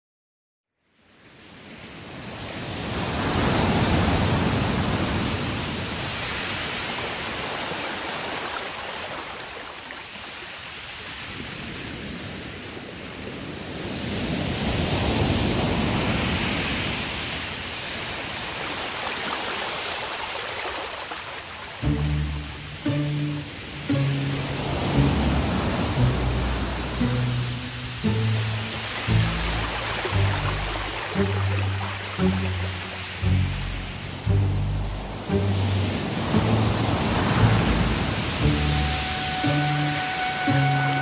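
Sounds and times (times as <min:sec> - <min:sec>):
rushing surf-like noise: 0:01.1 - 0:41.0.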